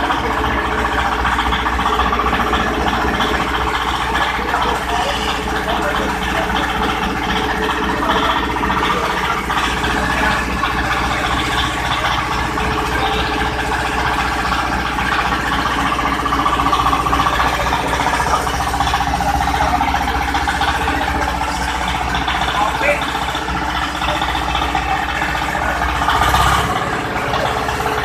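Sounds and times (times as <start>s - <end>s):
pulverizer mechanical drone: 0.0s - 28.0s.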